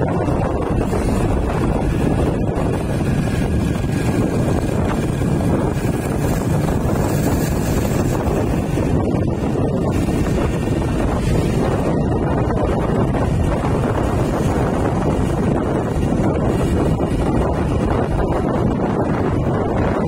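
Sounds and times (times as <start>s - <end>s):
vehicle road and engine noise: 0.0s - 20.0s
wind buffeting microphone: 0.0s - 20.0s.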